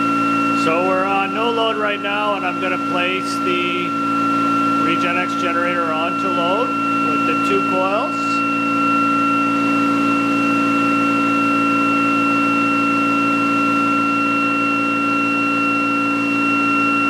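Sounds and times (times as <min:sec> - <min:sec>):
generator whine: 0:00.0 - 0:17.0.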